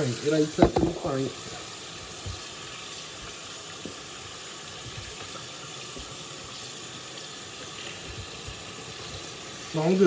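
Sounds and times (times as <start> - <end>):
faucet running into steel sink: 0.0 - 10.0.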